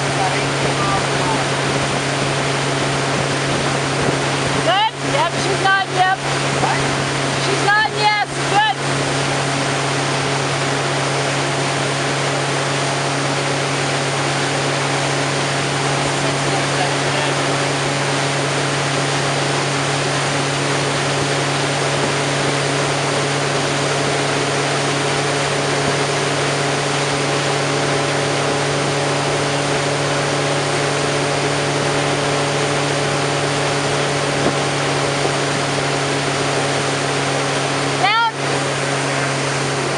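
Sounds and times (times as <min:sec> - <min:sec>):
boat engine droning: 0:00.0 - 0:39.9
constant rushing noise: 0:00.0 - 0:39.9.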